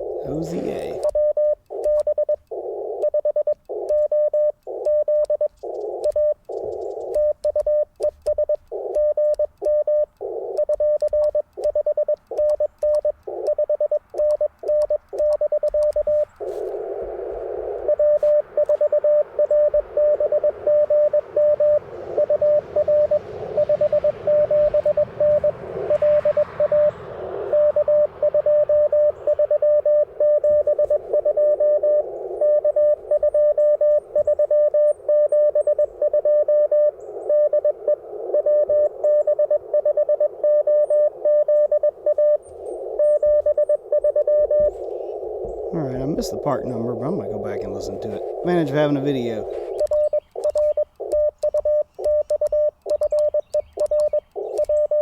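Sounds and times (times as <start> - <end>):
radio band noise hissing: 0.0 - 7.3, 8.0 - 12.4, 13.2 - 55.0
morse code tone: 0.0 - 55.0.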